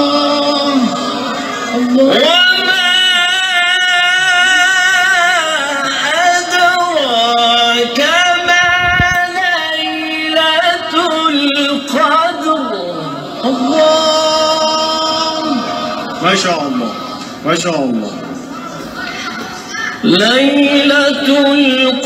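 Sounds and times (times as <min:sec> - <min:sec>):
man chanting religious recitation: 0:00.0 - 0:18.0, 0:20.0 - 0:22.0.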